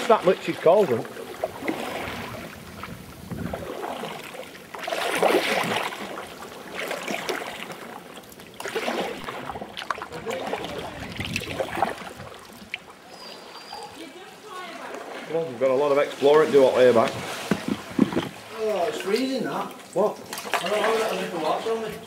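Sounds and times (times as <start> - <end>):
kayak paddle splashing water: 0.0 - 13.7, 14.4 - 22.0.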